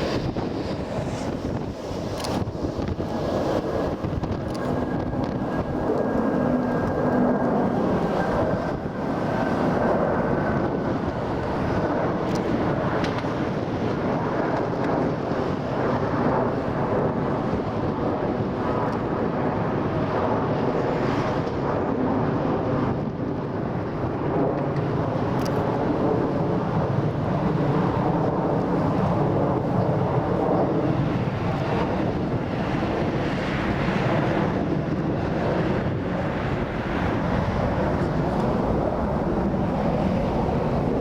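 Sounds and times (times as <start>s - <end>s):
jet engines rumbling: 0.0s - 41.0s
wind buffeting microphone: 0.0s - 41.0s.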